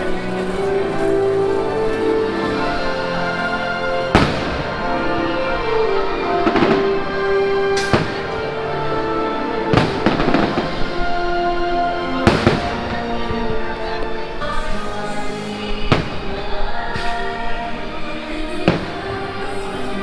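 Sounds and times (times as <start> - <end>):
fireworks bursting with bangs: 0.0 - 20.0.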